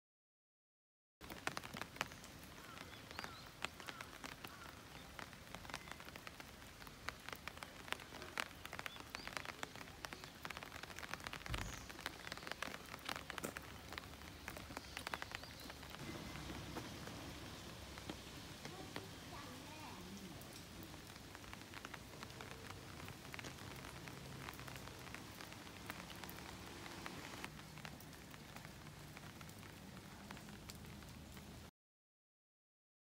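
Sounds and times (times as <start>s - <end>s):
light rain hiss: 1.2s - 31.7s
raindrops ticking close by: 1.2s - 31.7s.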